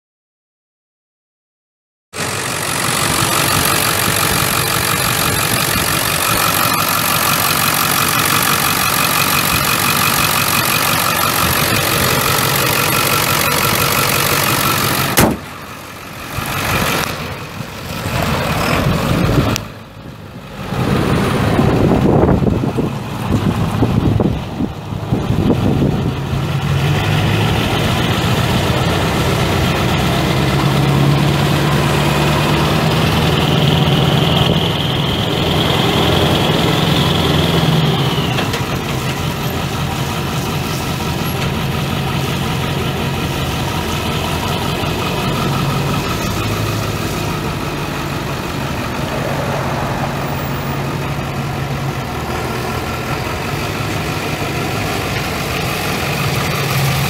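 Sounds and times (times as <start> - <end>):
diesel engine idling: 2.2 - 57.0.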